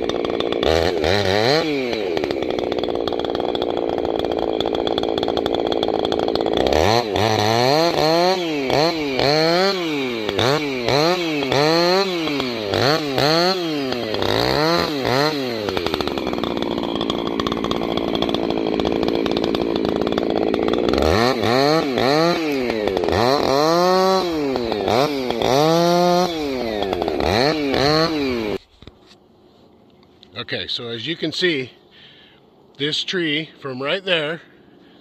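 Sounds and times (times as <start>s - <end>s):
chainsaw revving and cutting: 0.0s - 28.6s.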